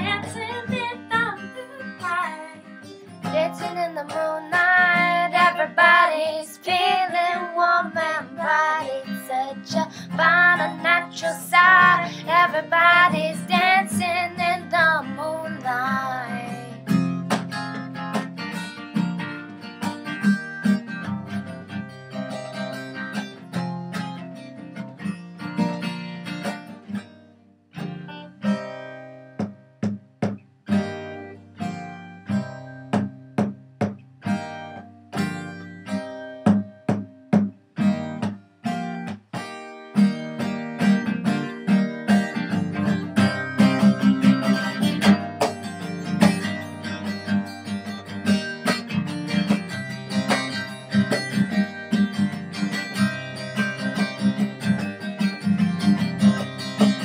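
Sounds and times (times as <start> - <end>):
acoustic guitar strumming and picking: 0.0 - 57.0.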